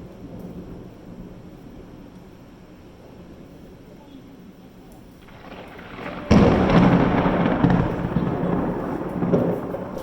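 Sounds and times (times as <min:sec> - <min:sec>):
thunder crack and rumble: 0:00.0 - 0:10.0.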